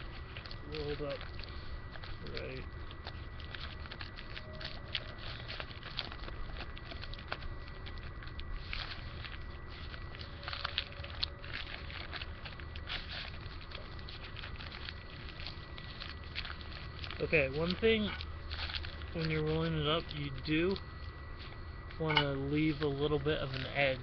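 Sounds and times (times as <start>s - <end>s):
newspaper rustling and crinkling: 0.0s - 24.0s
small crackles: 0.0s - 24.0s.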